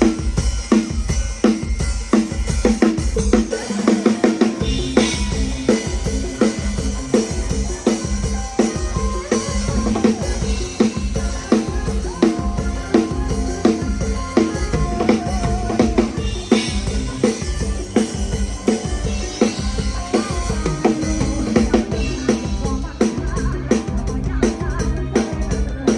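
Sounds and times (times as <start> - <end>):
band playing: 0.0 - 25.9
drum kit beat: 0.0 - 25.9.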